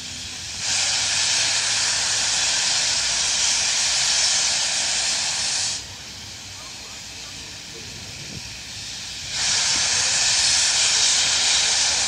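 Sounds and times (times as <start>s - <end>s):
loud steam hiss: 0.0s - 12.0s
quiet continuous steam hiss: 0.0s - 12.0s.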